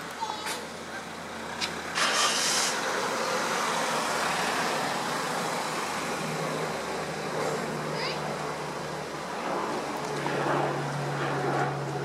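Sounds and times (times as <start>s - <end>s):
faint low engine hum: 0.0s - 12.0s
road traffic noise: 0.0s - 12.0s.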